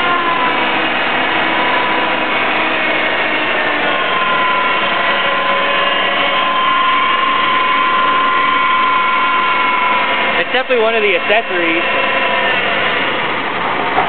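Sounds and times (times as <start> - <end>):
car engine high-pitched whine: 0.0 - 14.0.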